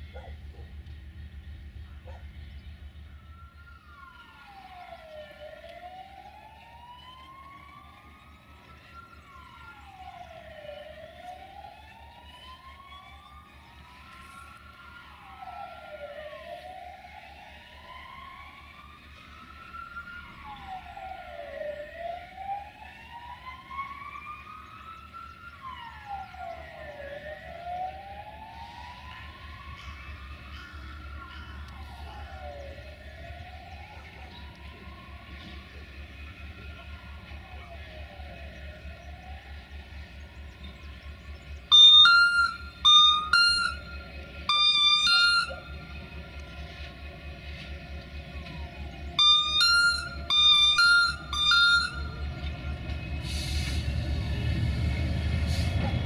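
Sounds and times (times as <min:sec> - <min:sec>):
wailing siren: 0:00.0 - 0:00.7, 0:01.9 - 0:56.0
locomotive engine rumble: 0:00.0 - 0:56.0.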